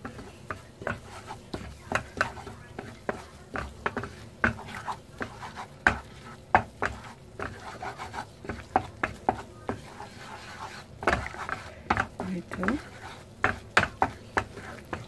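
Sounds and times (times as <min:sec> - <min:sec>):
wooden spatula scraping a pan: 0:00.0 - 0:15.0.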